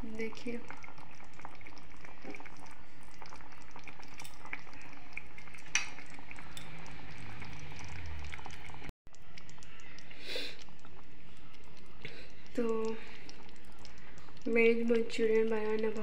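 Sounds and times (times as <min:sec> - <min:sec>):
gravy boiling and bubbling: 0:00.0 - 0:16.0.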